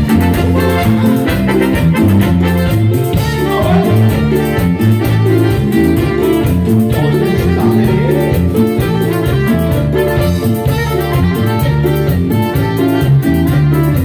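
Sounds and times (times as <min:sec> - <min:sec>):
electronic drum kit: 0:00.0 - 0:14.0
keyboard melody: 0:00.0 - 0:14.0
metal guiro scraped in rhythm: 0:00.0 - 0:14.0
stepping bass line: 0:00.0 - 0:14.0.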